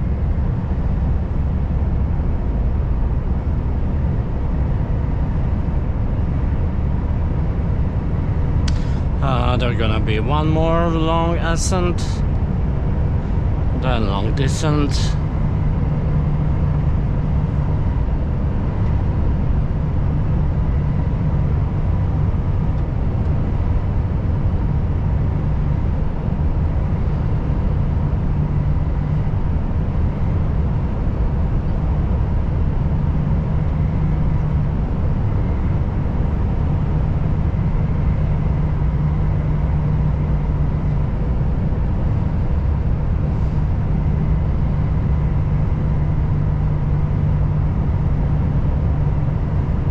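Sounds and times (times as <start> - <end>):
truck diesel engine drone: 0.0 - 49.9.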